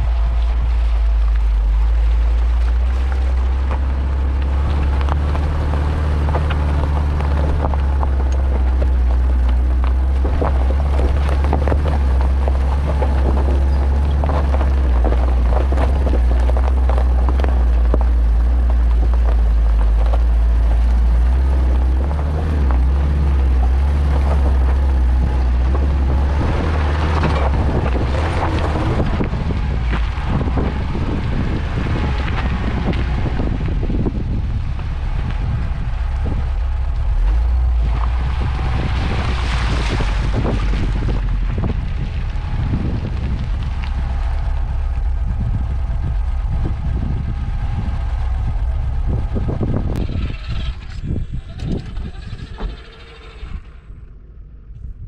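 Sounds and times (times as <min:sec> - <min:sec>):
gravel crunching under tyres: 0:00.0 - 0:55.0
van engine low drone: 0:00.0 - 0:55.0
wind on microphone: 0:00.0 - 0:55.0.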